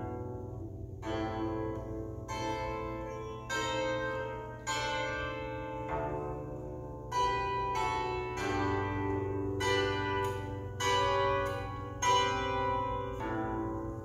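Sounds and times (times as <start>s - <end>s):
plucked bandura chords: 0.0s - 14.0s.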